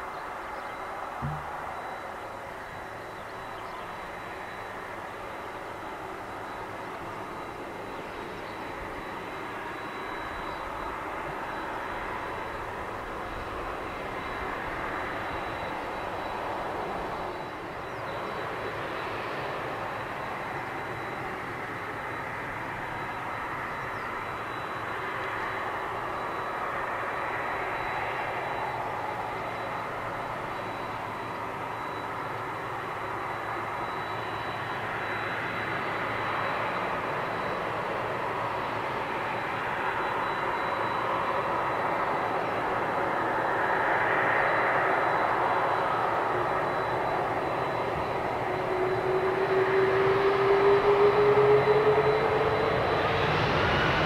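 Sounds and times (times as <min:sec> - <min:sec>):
jet engines rumbling: 0:00.0 - 0:54.0
thin high whine: 0:00.0 - 0:54.0.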